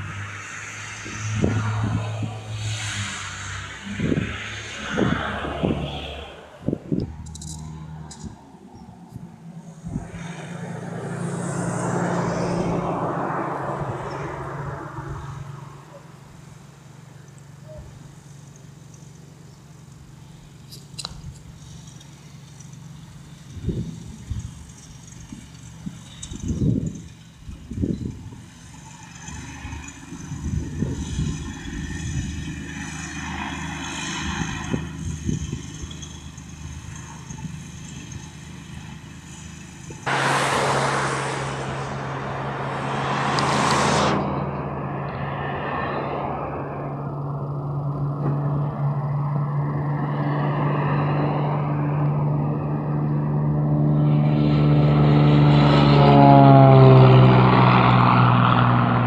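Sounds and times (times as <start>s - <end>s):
propeller aircraft engine droning: 0.0s - 59.0s.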